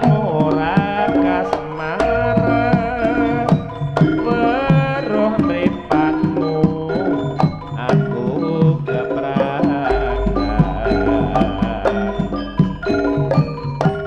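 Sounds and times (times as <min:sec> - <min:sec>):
hand drums beating: 0:00.0 - 0:14.0
pitch-bending melodic lead: 0:00.0 - 0:14.0
pitched percussion: 0:00.0 - 0:14.0.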